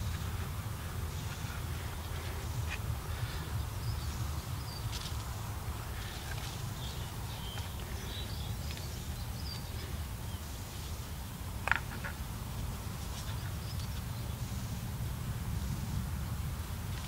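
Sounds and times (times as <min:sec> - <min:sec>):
birds chirping: 0:00.0 - 0:15.0
low steady rumble: 0:00.0 - 0:17.0.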